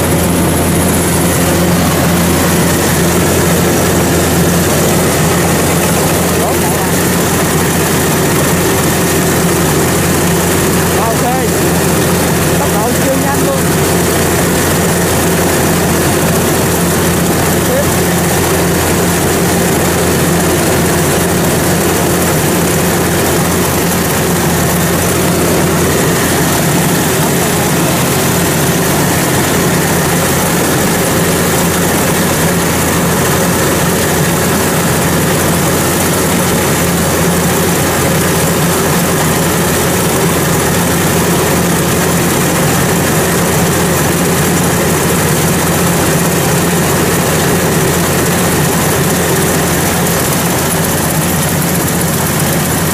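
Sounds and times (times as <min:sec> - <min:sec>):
combine harvester engine running: 0:00.0 - 0:52.9.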